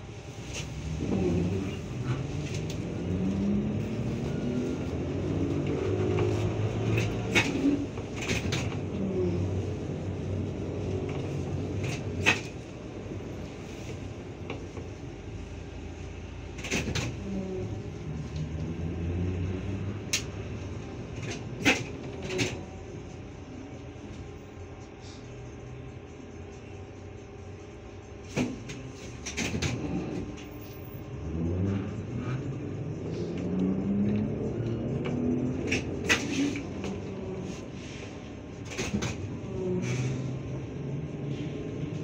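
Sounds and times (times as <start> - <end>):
trolleybus cabin noise: 0.0 - 42.0.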